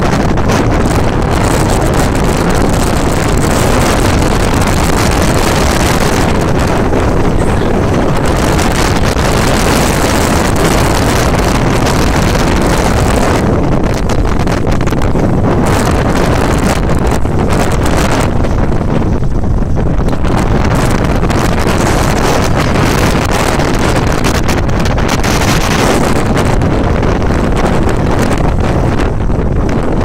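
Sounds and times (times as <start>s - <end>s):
gusty wind buffeting microphone: 0.0s - 30.0s.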